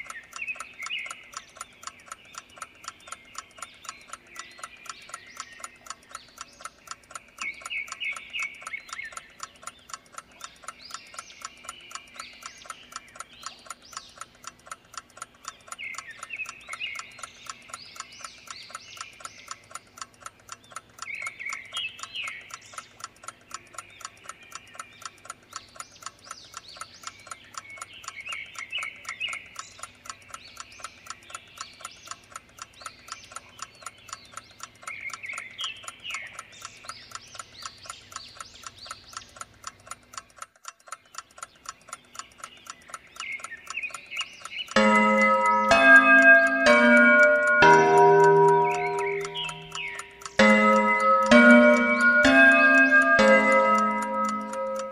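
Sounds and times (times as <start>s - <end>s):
birds chirping: 0.0s - 54.9s
clock ticking: 0.0s - 54.9s.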